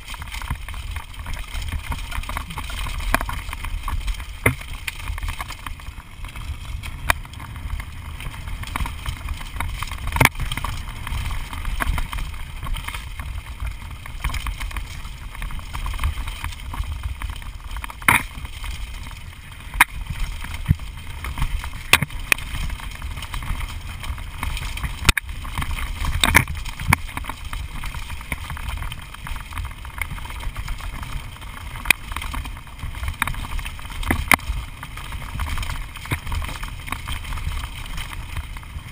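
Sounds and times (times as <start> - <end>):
bike clacking and rattling: 0.0 - 38.9.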